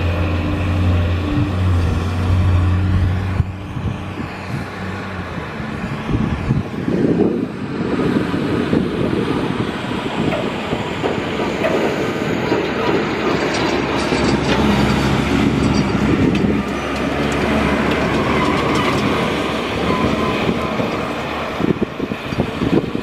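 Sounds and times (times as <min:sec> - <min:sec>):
diesel engine droning: 0:00.0 - 0:23.0
truck tyres and body rumbling: 0:00.0 - 0:23.0.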